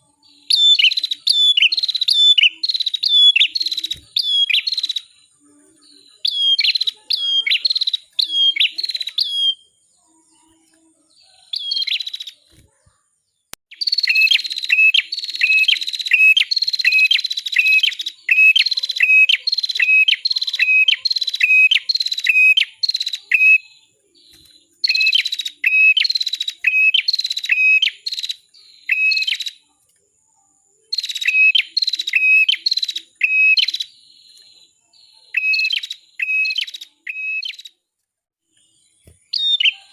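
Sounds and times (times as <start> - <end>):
bird chirping: 0.0 - 37.8, 38.4 - 39.9.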